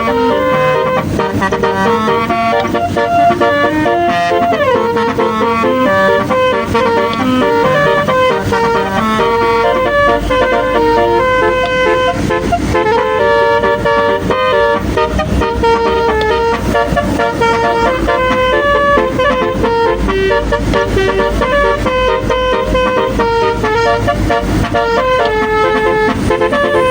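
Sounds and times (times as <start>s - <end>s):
multi-tone bus horn melody: 0.0s - 26.9s.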